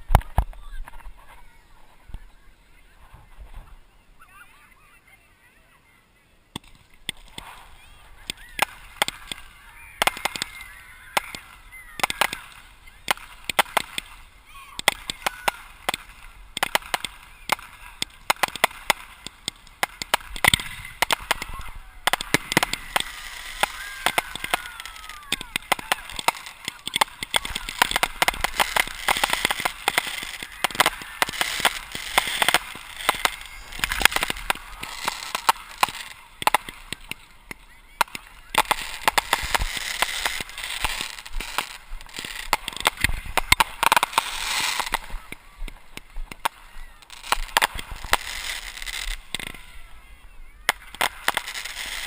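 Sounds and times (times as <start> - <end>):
fireworks crackling and popping: 0.0 - 5.0, 6.4 - 52.0.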